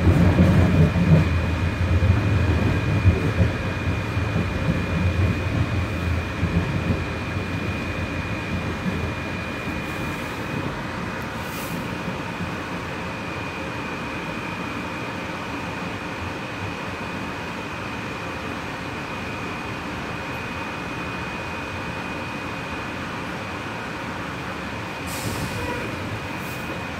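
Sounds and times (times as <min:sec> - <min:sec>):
train running gear rumble: 0:00.0 - 0:26.9.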